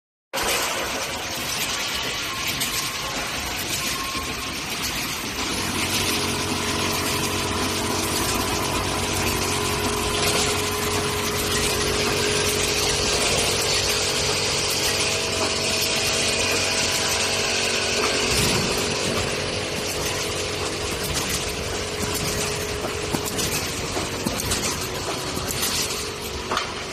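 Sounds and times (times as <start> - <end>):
factory machinery humming: 0.4 - 26.9
machine whining tones: 0.4 - 26.9.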